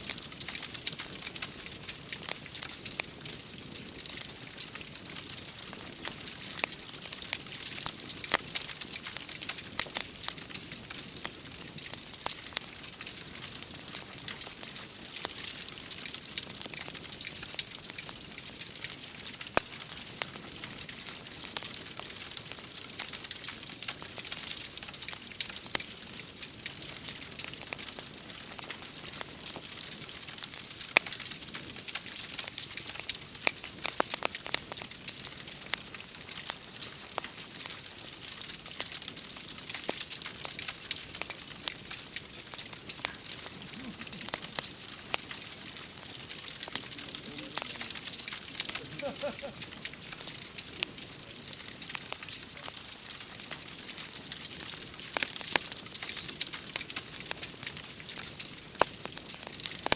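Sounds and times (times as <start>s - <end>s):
rain falling: 0.0s - 59.9s
wood fire crackling: 0.0s - 59.9s.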